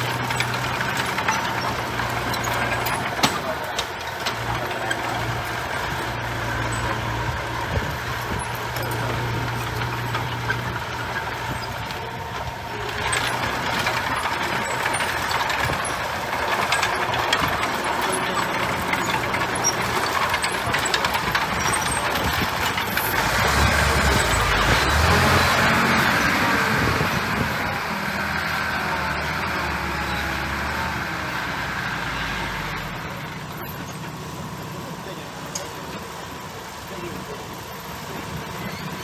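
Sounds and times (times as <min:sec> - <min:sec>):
diesel construction machinery running: 0:00.0 - 0:39.0.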